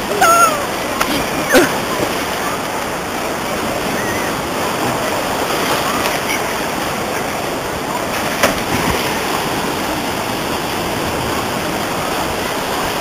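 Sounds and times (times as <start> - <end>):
shallow surf washing: 0.0 - 13.0
water churning around wading legs: 0.0 - 13.0.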